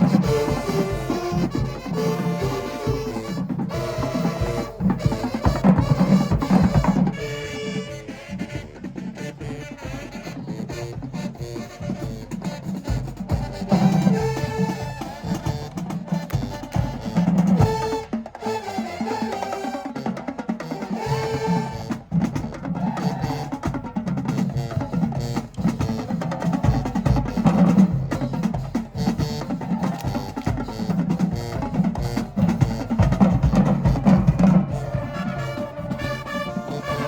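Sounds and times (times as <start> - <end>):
drumline beating a steady rhythm: 0.0 - 37.0
loud brass phrases: 0.0 - 37.0
marching band playing: 0.0 - 37.0.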